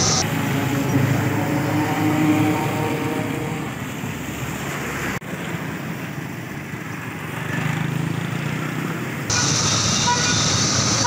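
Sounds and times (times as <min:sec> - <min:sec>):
rain hissing: 0:00.0 - 0:07.4, 0:09.3 - 0:11.0
traffic on wet road: 0:00.0 - 0:11.0.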